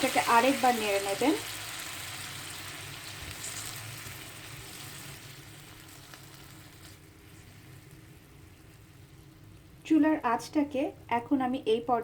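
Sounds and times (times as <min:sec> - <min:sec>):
curry sizzling in a pan: 0:00.0 - 0:09.8.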